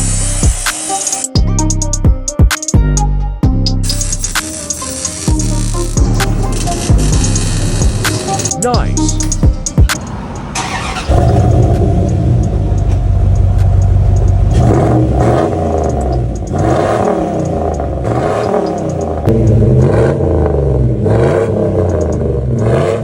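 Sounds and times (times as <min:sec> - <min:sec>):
loud engine revving: 0:00.0 - 0:01.1, 0:03.8 - 0:23.0.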